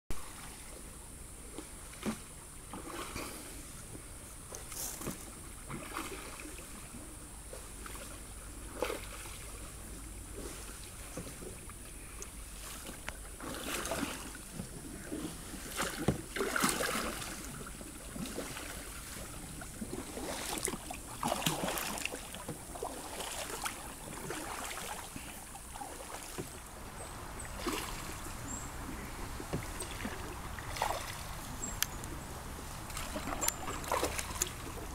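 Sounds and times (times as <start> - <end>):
paddles splashing in water: 0.1 - 34.9
steady high-pitched hiss: 0.1 - 34.9.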